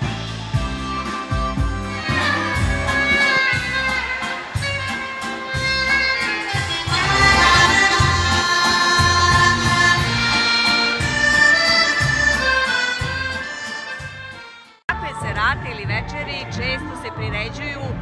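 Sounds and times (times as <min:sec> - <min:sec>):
dance band with accordion: 0:00.0 - 0:18.0.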